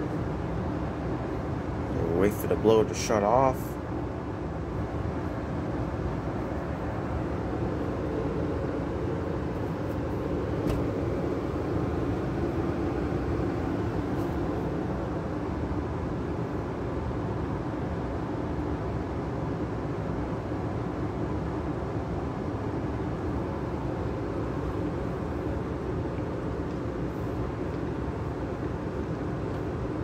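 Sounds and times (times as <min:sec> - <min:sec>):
furnace blower fan rushing air: 0:00.0 - 0:30.0.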